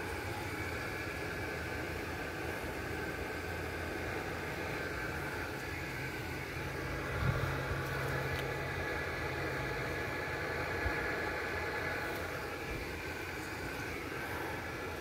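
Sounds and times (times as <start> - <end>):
low engine hum: 0.0 - 15.0
low outdoor rumble: 0.0 - 15.0.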